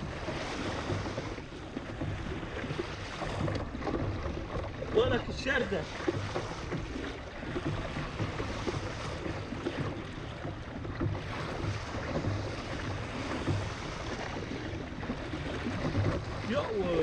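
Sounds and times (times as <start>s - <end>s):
waves washing against kayak: 0.0s - 17.0s.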